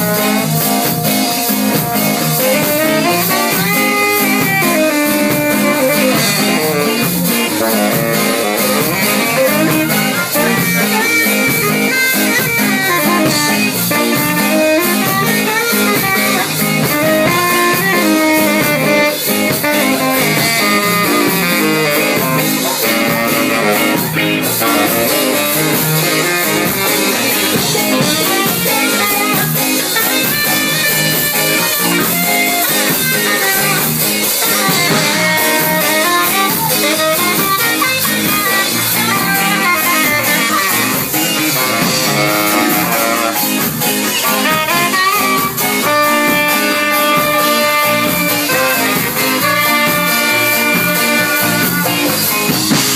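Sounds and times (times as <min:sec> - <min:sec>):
drum kit: 0:00.0 - 0:52.9
guitar: 0:00.0 - 0:52.9
live band playing: 0:00.0 - 0:52.9.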